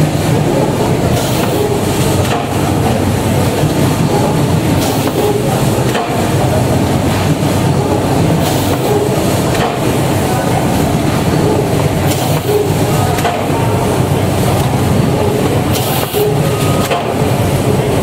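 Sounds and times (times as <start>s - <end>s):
machine conveyor clatter: 0.0s - 18.0s.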